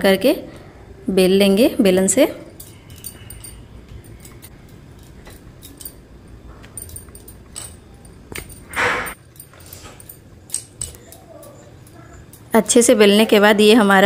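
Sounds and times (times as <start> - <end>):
bangles clinking: 2.0 - 13.6.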